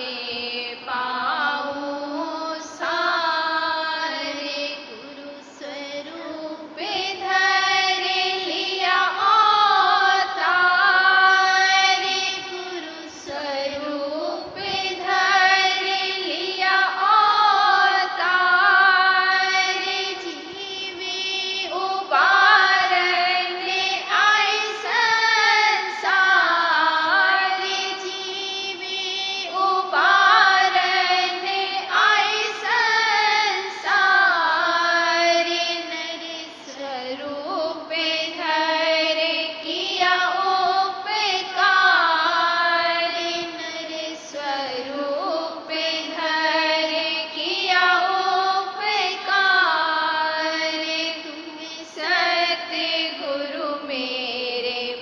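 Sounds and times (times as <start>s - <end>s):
woman singing a hymn: 0.0s - 55.0s.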